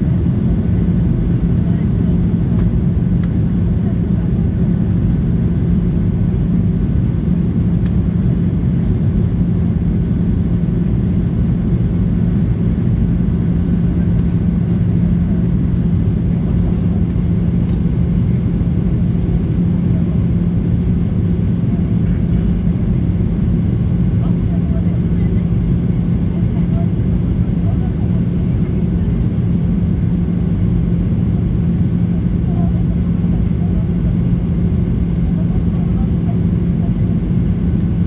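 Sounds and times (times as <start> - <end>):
airplane cabin engine rumble: 0.0 - 38.0
constant low hum: 0.0 - 38.0.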